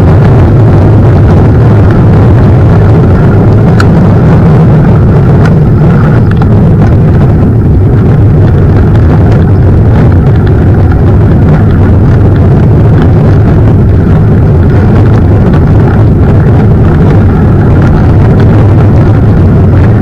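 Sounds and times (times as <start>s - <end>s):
bike tyres rolling over trail: 0.0s - 20.0s
wind on microphone: 0.0s - 20.0s.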